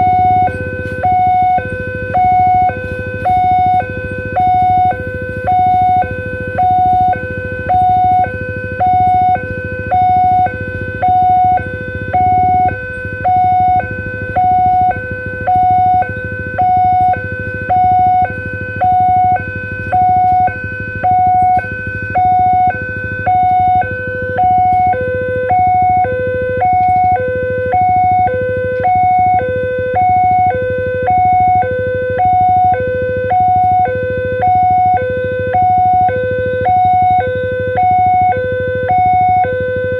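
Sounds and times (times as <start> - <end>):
level-crossing two-tone alarm: 0.0 - 39.9.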